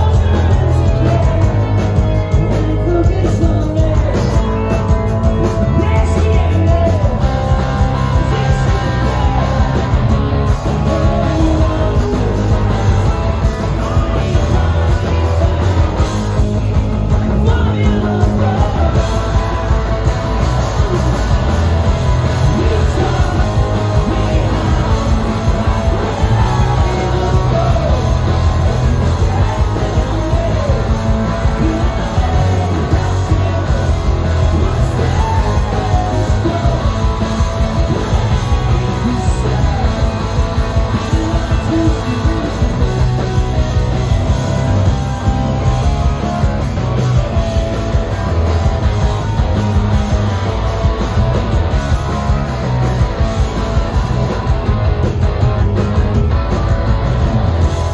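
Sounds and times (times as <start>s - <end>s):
man singing lead vocals: 0.0s - 49.0s
live rock band playing: 0.0s - 57.9s.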